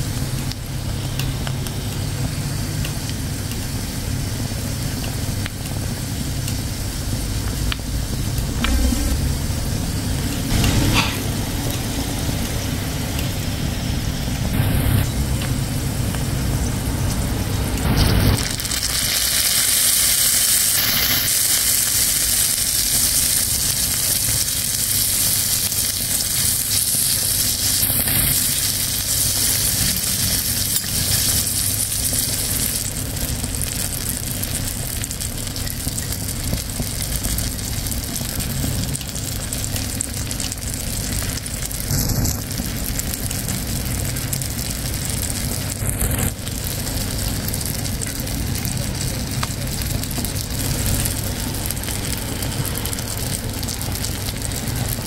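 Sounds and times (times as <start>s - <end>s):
tomatoes sizzling in hot oil: 0.0s - 55.0s.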